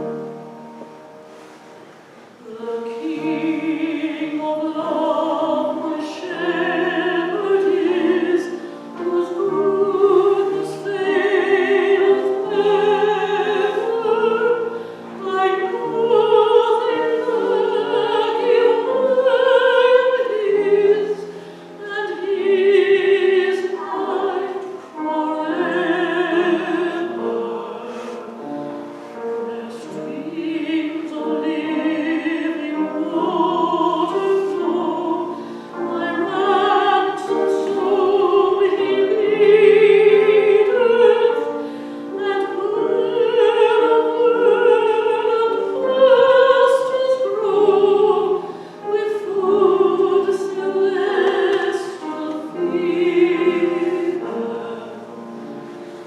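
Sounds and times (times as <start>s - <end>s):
piano accompaniment: 0.0s - 56.0s
woman singing a hymn: 2.4s - 28.6s, 29.2s - 55.4s.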